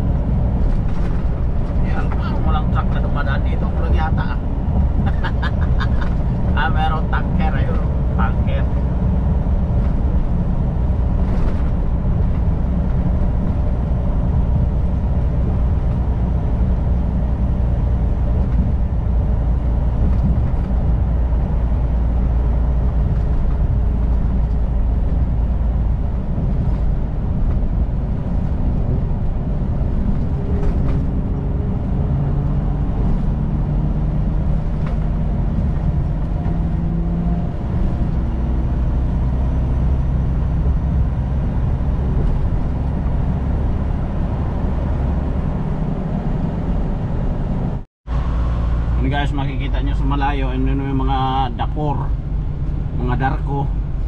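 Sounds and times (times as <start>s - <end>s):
road noise: 0.0s - 54.0s
truck diesel engine drone: 0.0s - 54.0s.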